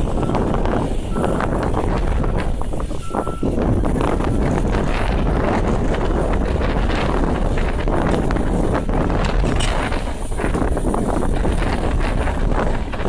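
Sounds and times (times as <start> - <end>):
distant jet engines roaring: 0.0 - 13.0
wind buffeting microphone: 0.0 - 13.0.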